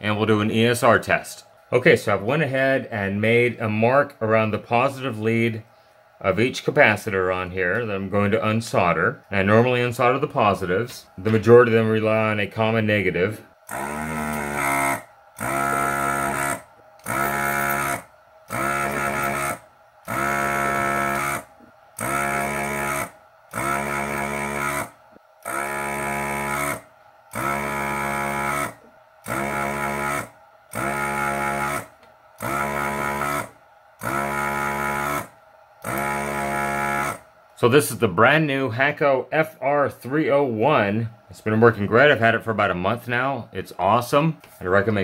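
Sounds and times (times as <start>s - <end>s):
desoldering vacuum pump humming: 0.0s - 45.0s.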